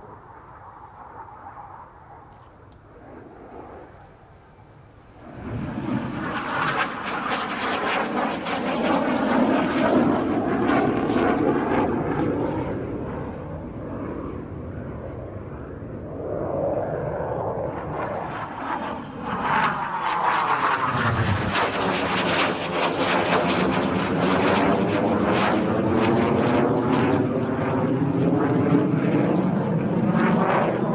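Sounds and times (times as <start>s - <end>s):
jet engine flyby: 0.0s - 30.9s.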